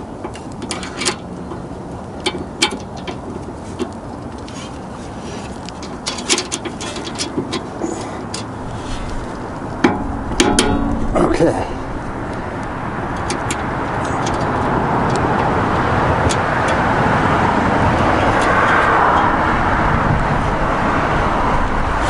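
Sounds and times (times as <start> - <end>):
vehicle passing: 3.3 - 22.0.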